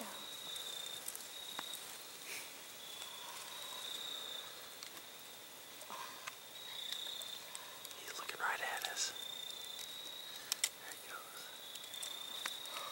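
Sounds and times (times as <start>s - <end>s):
faint outdoor hiss: 0.0s - 12.9s
insect trilling: 0.0s - 12.9s.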